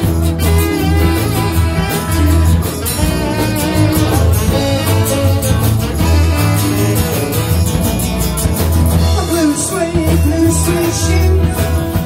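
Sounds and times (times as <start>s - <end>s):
bass line: 0.0s - 12.0s
electric and acoustic guitars: 0.0s - 12.0s.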